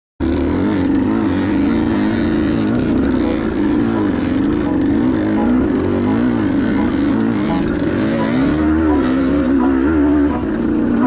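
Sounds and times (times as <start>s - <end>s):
dirt bike engine revving: 0.2s - 11.0s.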